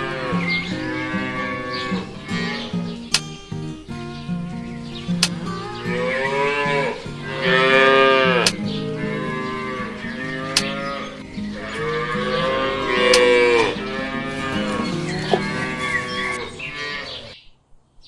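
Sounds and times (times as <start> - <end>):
cow mooing: 0.0 - 2.8, 5.6 - 17.4
soft guitar music: 0.0 - 17.4.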